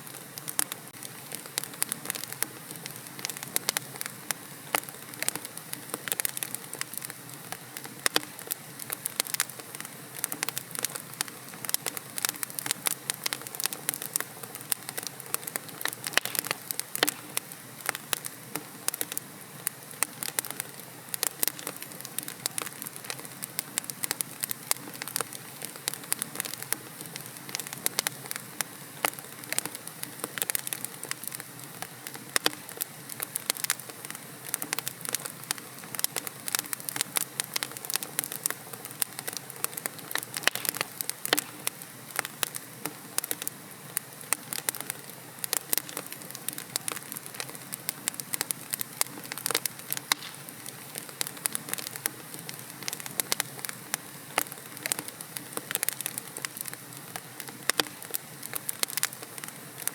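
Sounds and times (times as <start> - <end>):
fire crackling and popping: 0.0 - 59.9
soft fire hiss: 0.0 - 59.9.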